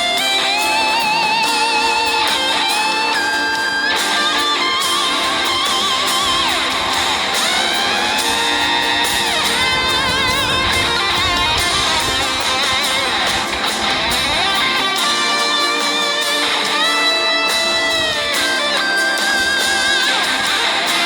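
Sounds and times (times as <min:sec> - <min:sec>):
lead electric guitar bends: 0:00.0 - 0:21.0
strummed guitar backing: 0:00.0 - 0:21.0.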